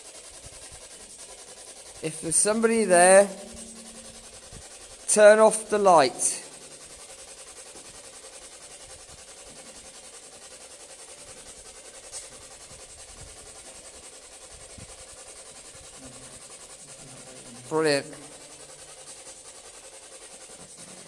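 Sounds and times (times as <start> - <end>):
low room hiss: 0.0 - 21.0.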